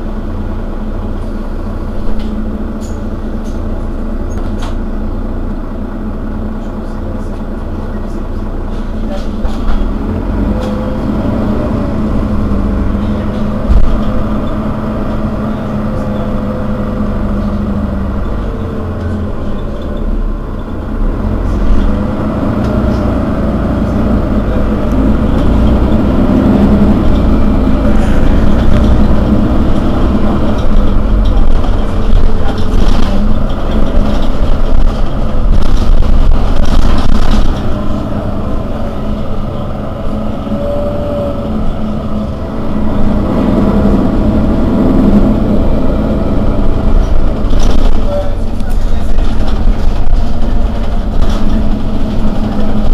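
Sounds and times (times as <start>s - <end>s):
bus engine idling: 0.0s - 52.9s.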